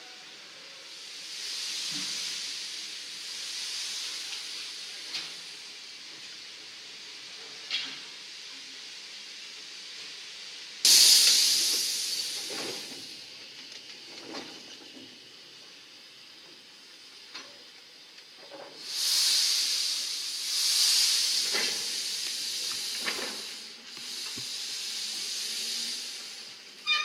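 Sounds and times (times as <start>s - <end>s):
venting pressure hiss: 0.0s - 27.0s.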